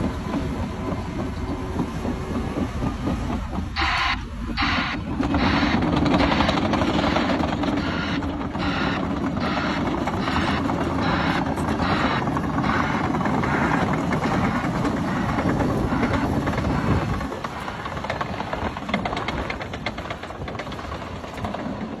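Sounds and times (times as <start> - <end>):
diesel engine under load: 0.0 - 22.0
steel tracks clanking: 0.0 - 22.0.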